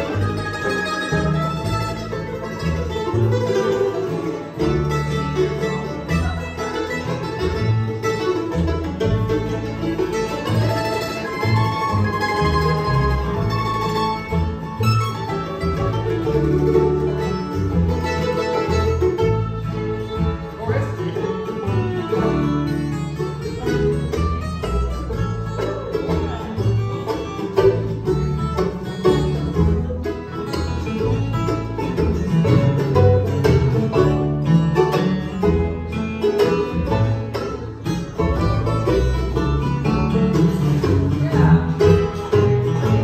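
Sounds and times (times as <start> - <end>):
banjo picking: 0.0 - 43.0
guitar: 0.0 - 43.0
low bass notes: 0.0 - 43.0.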